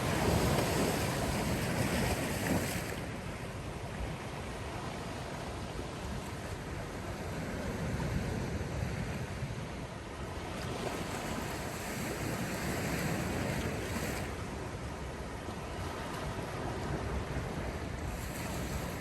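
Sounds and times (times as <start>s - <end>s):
sea waves washing in: 0.0s - 19.0s.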